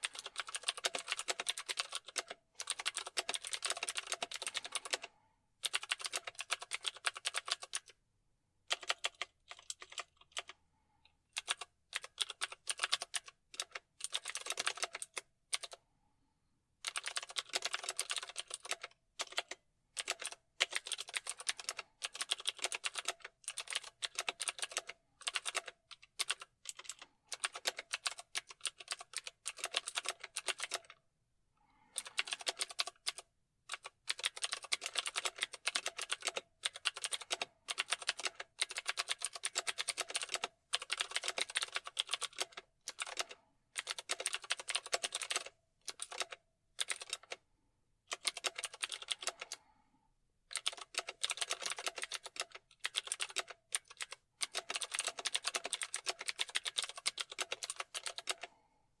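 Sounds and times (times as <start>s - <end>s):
typing on computer keyboard: 0.0s - 8.0s, 8.7s - 10.6s, 11.3s - 15.8s, 16.8s - 31.0s, 31.8s - 47.4s, 48.1s - 49.6s, 50.5s - 58.6s.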